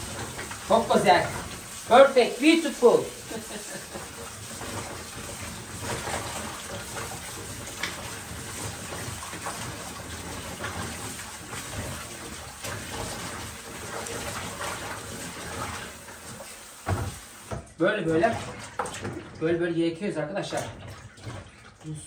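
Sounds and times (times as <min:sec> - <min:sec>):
tap water running into basin: 0:00.0 - 0:22.0
small knocks and splashes: 0:03.2 - 0:19.7, 0:20.4 - 0:22.0.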